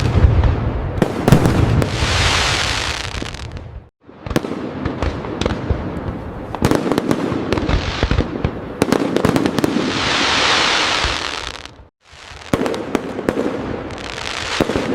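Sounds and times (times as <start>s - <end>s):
fireworks bangs and pops: 0.0s - 14.9s
fireworks crackling: 0.0s - 14.9s.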